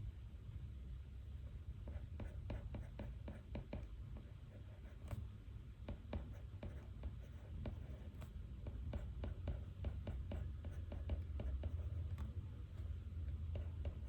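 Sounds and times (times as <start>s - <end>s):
low room hum: 0.0s - 14.0s
pen scratching on paper: 1.9s - 5.2s, 5.9s - 14.0s.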